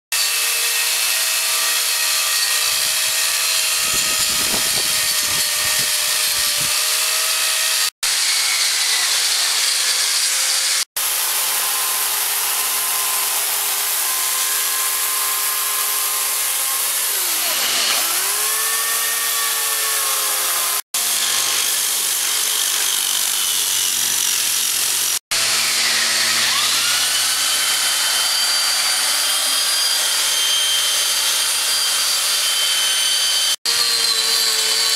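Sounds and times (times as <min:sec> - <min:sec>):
angle grinder carving wood: 0:00.1 - 0:34.9
chainsaw cutting wood: 0:00.2 - 0:34.9
disc sander on wood: 0:02.4 - 0:34.9.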